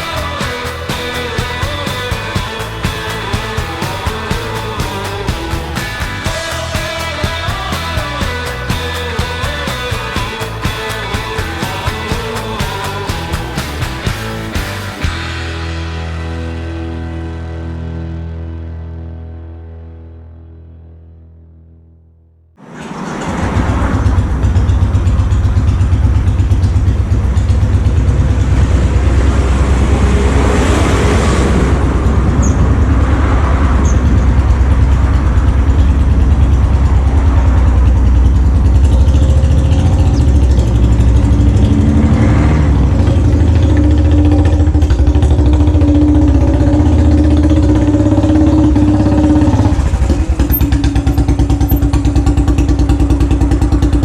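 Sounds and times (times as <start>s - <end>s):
motorcycle engine running: 0.0s - 17.6s, 23.1s - 54.0s.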